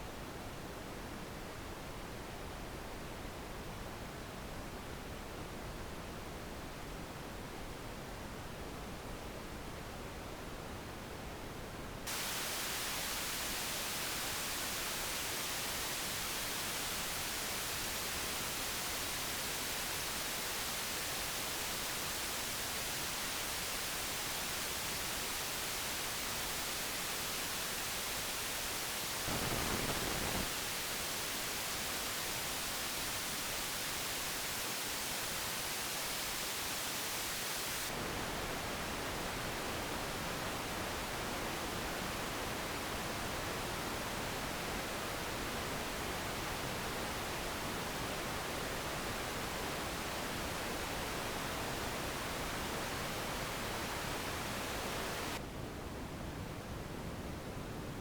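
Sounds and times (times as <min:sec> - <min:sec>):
electrical noise hiss: 0:00.0 - 0:55.5.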